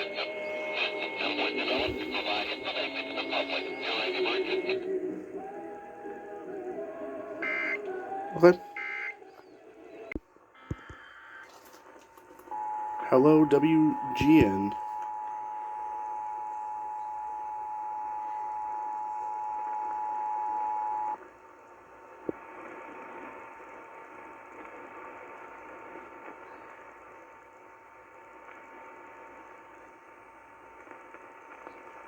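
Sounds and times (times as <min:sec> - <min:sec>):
radio hiss: 0:00.0 - 0:32.0.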